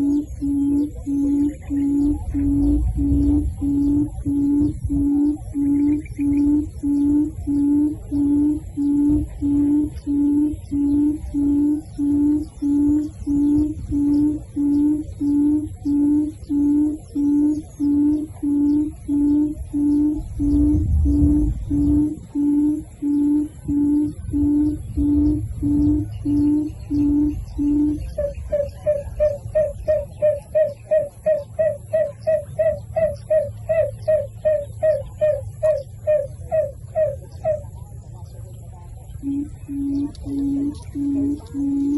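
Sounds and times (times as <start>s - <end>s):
low hooting bird call: 0.0s - 41.9s
low rumbling noise: 0.0s - 41.9s
small birds chirping: 0.0s - 41.9s.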